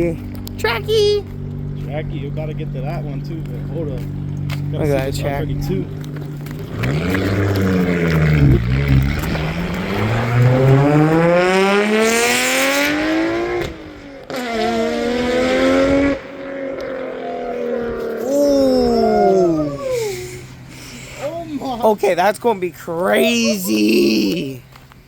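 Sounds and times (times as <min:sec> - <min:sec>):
car engine accelerating hard: 0:00.0 - 0:21.4.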